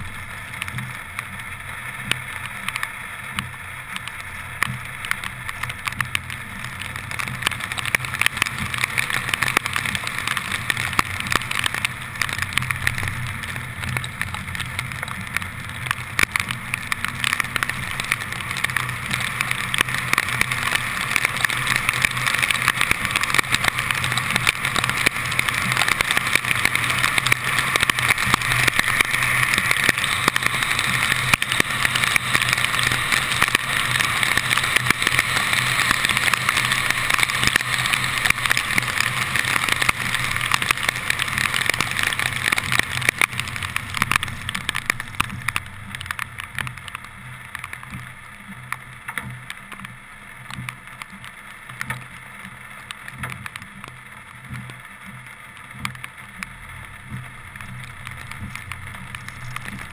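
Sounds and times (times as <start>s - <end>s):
low engine hum: 0.0s - 59.9s
raindrops ticking on camera: 0.0s - 59.9s
tyres hissing on wet road: 0.0s - 59.9s.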